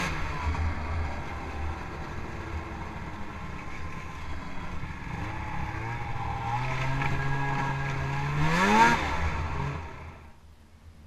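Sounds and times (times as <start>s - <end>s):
snowmobile engine revving: 0.0s - 10.3s.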